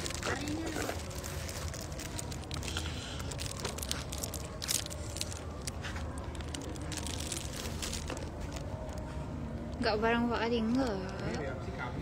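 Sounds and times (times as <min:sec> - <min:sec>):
plastic bag and cup crinkling: 0:00.0 - 0:11.5.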